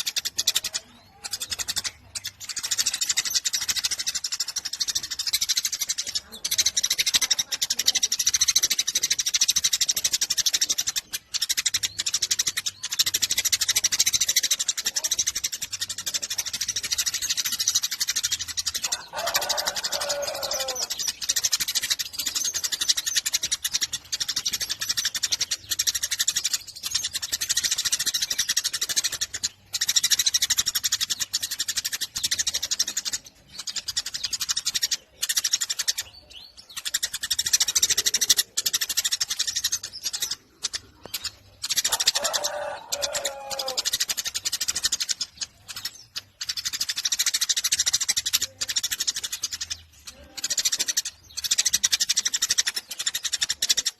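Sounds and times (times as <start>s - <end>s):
sparrow chirping: 0.0s - 53.9s.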